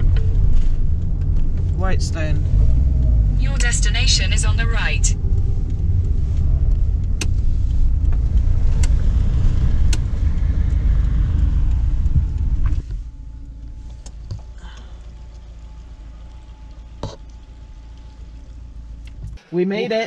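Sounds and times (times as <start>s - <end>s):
quiet low hum: 0.0s - 19.6s
van engine and road rumble: 0.0s - 20.0s.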